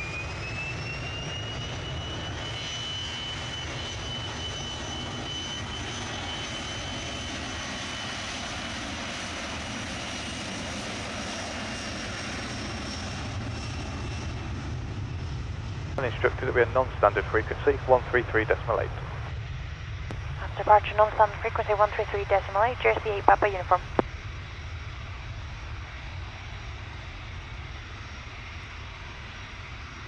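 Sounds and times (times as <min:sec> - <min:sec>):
jet engines running: 0:00.0 - 0:30.0.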